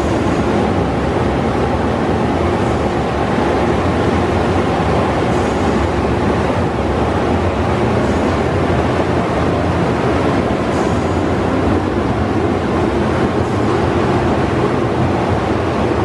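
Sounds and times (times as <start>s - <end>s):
brush rushing wash noise: 0.0s - 16.0s
car wash machine hum: 0.0s - 16.0s.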